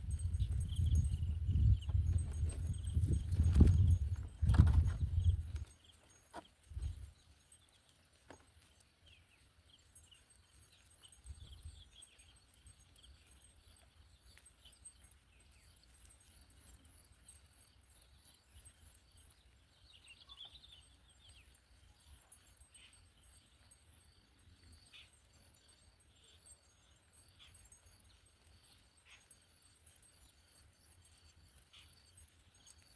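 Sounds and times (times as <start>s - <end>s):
faint high chirps: 0.0s - 32.9s.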